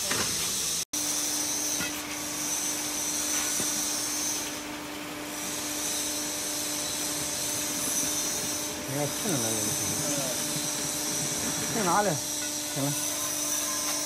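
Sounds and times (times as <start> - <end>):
conveyor motors humming: 1.0 - 14.0.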